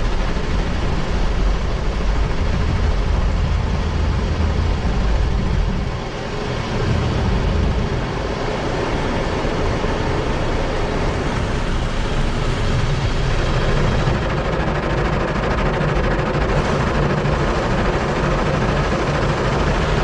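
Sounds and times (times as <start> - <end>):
car wash machinery rushing: 0.0 - 20.0.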